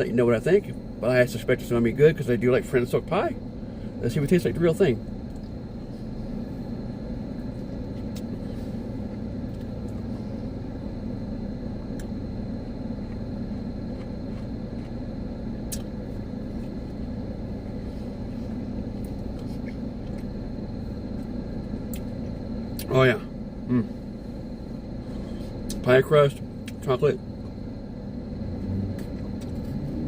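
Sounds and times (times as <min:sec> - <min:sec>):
car engine rumble in cabin: 0:00.0 - 0:30.0.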